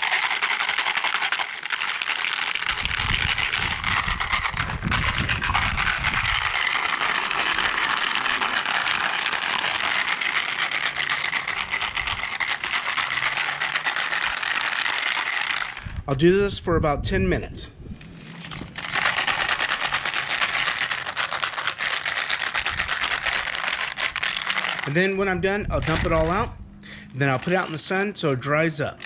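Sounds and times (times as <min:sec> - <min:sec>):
marbles rattling in plastic tank: 0:00.0 - 0:16.0, 0:18.4 - 0:26.5, 0:27.2 - 0:29.0.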